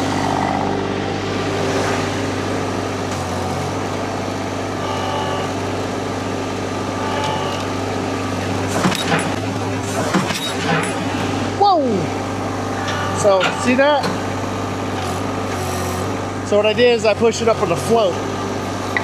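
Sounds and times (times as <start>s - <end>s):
small loader engine running: 0.0s - 19.0s.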